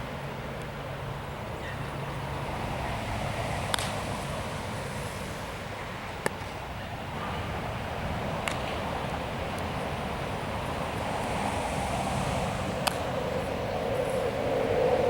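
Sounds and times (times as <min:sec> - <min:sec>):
wind on microphone: 0:01.3 - 0:15.0.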